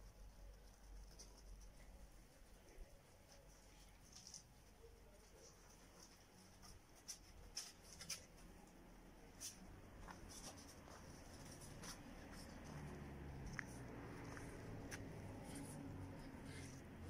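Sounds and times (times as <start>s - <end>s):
faint clicks and scuffs: 0.0s - 17.0s.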